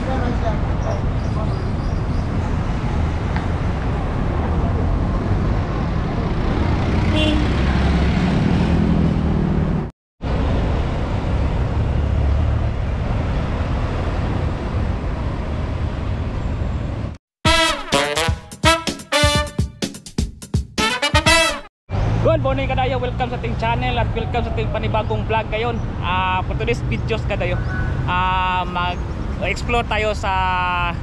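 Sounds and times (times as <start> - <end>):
city street traffic: 0.0 - 19.5, 20.8 - 31.0.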